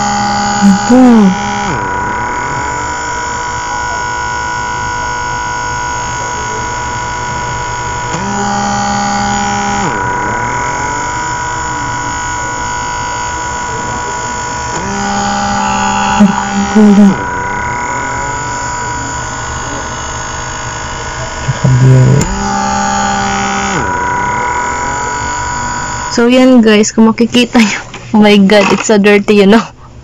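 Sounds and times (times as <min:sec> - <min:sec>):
small suction motor humming: 0:00.0 - 0:29.4.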